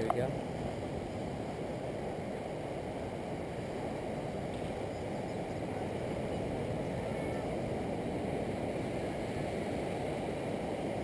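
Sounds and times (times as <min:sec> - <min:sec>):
low rushing beach ambience: 0:00.0 - 0:11.0.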